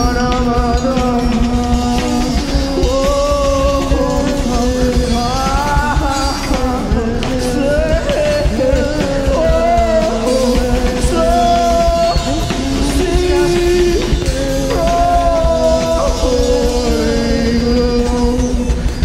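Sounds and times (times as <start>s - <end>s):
experimental band held notes: 0.0s - 19.0s.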